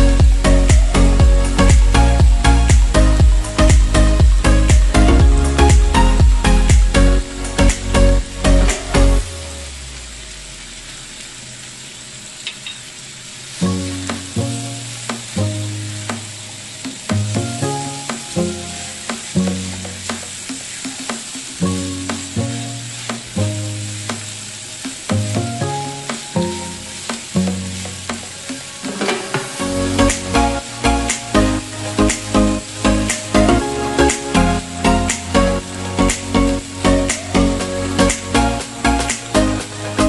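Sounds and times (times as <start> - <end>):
background music with bass line: 0.0 - 10.8, 13.6 - 40.0
squash sizzling in a pan: 0.1 - 40.0.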